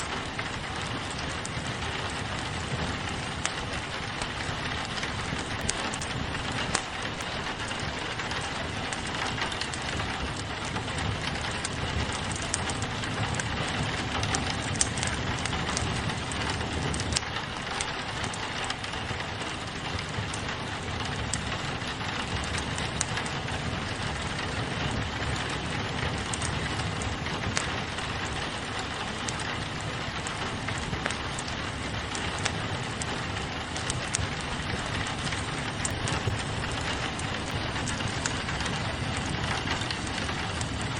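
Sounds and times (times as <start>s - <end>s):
crackling wood fire: 0.0s - 40.9s
rain on a window: 0.0s - 40.9s.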